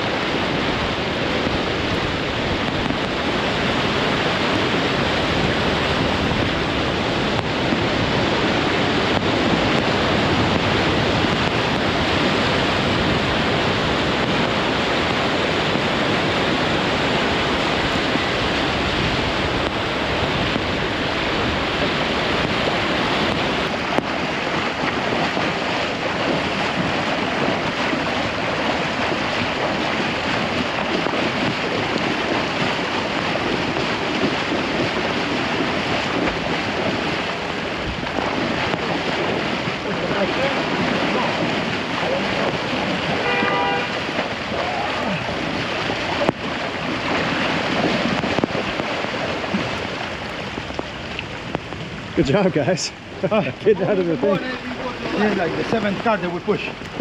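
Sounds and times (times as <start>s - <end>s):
floodwater rushing: 0.0s - 57.0s
wind buffeting microphone: 0.0s - 57.0s.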